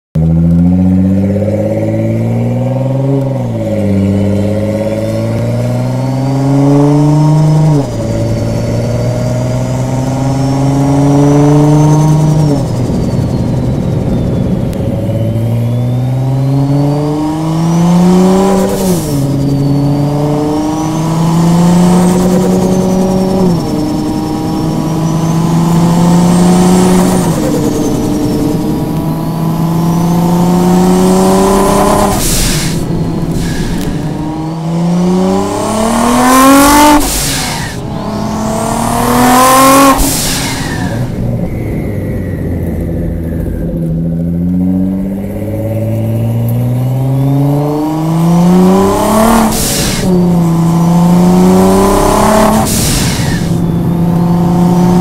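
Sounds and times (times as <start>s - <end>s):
car engine accelerating through upshifts: 0.2s - 55.0s
turbo whistle: 4.8s - 43.6s, 46.1s - 55.0s.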